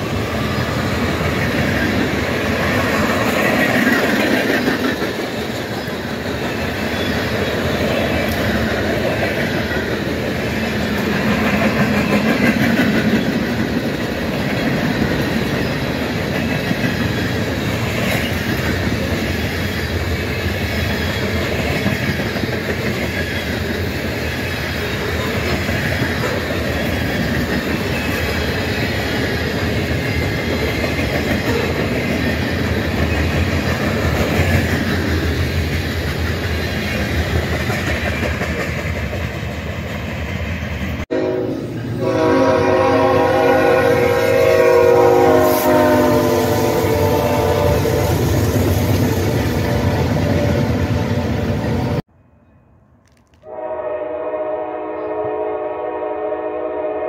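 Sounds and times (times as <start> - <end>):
freight train wheels rumbling: 0.0 - 52.1.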